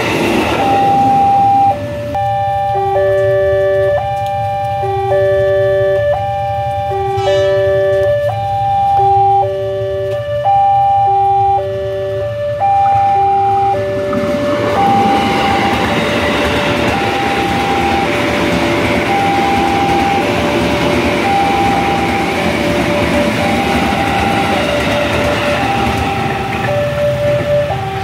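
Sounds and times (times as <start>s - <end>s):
train wheels rumbling on rails: 0.0s - 28.0s
two-tone crossing warning: 0.0s - 28.0s.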